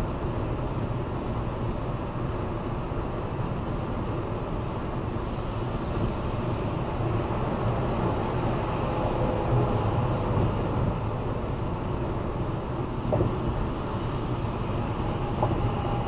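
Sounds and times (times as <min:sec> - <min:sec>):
road and wind noise in car: 0:00.0 - 0:16.0.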